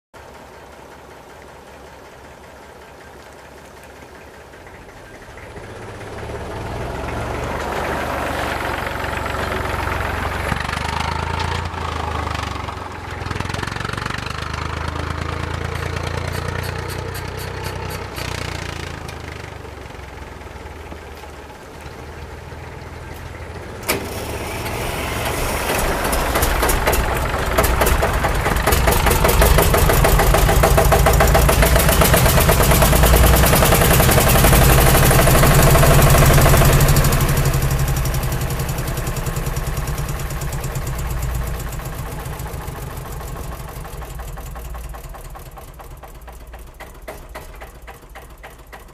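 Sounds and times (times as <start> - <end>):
tractor engine running: 0.2 - 48.9.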